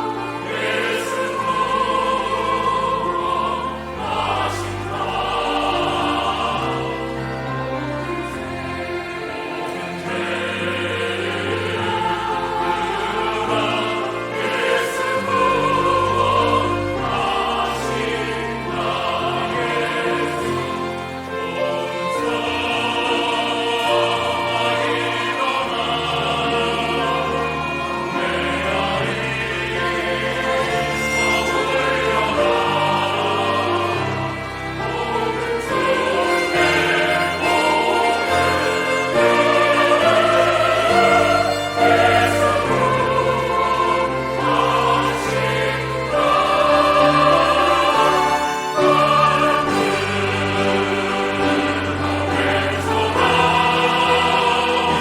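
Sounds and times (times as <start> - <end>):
choir singing: 0.0 - 55.0
piano: 0.0 - 55.0
pipe organ bass notes: 0.0 - 55.0.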